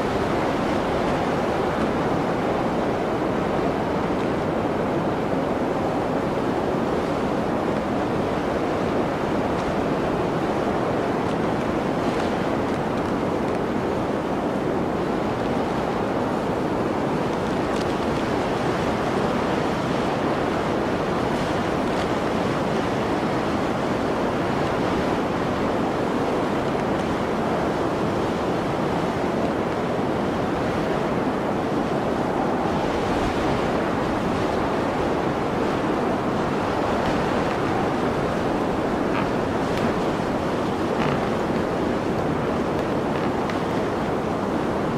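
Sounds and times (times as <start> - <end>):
blizzard wind blowing: 0.0 - 44.9.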